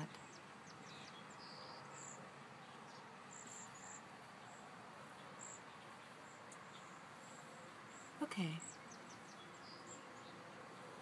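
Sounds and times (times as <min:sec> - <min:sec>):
background hiss: 0:00.0 - 0:11.0
small birds chirping: 0:00.0 - 0:11.0.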